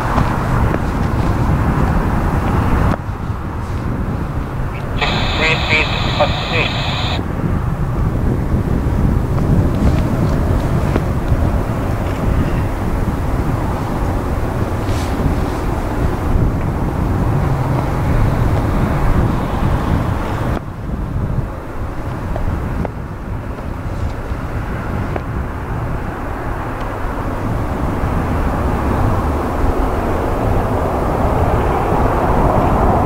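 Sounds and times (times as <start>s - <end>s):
airliner engines rumbling: 0.4s - 20.6s, 21.4s - 33.0s.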